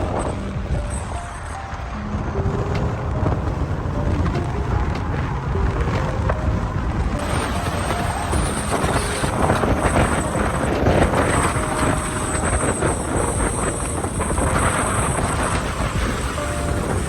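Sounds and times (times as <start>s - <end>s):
faint steady tones: 0.0s - 17.0s
road traffic noise: 0.0s - 17.0s
wind rushing over microphone: 0.0s - 17.0s.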